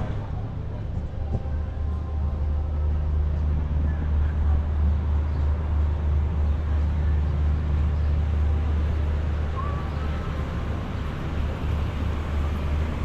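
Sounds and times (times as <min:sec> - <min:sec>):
low rumble of riverfront ambience: 0:00.0 - 0:13.0.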